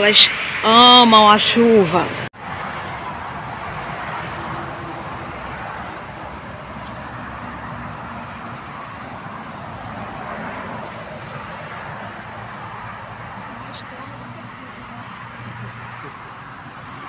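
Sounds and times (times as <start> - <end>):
passing vehicles hissing: 0.0 - 17.0.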